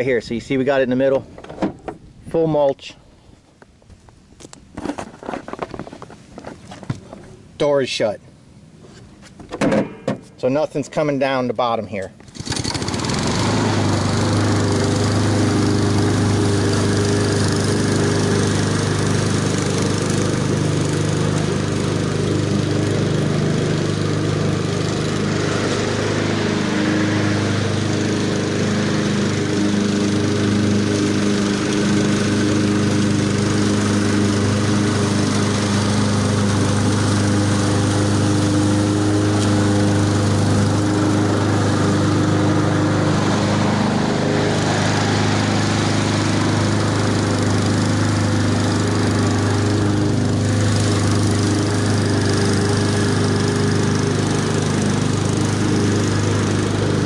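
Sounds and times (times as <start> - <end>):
lawn mower cutting grass: 9.8 - 57.0.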